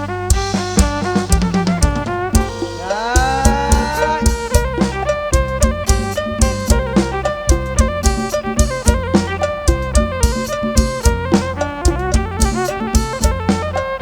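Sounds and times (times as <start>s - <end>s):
bass: 0.0s - 14.0s
drum kit beat: 0.0s - 14.0s
fiddle melody: 0.0s - 14.0s.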